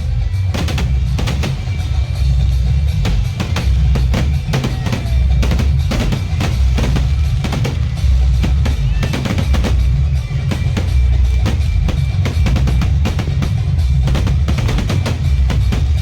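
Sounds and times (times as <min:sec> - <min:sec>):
bass drum and snare beat: 0:00.0 - 0:16.0
loud music with heavy bass: 0:00.0 - 0:16.0.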